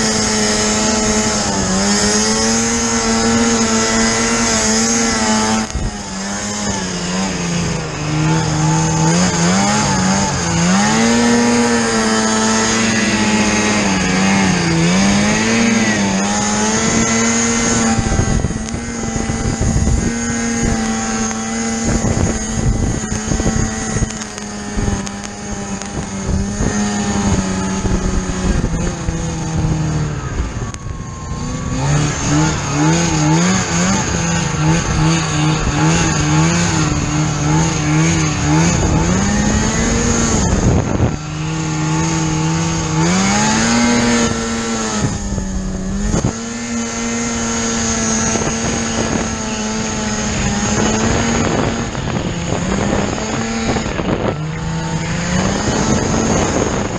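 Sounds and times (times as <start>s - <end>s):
snowmobile engine revving: 0.0s - 56.9s.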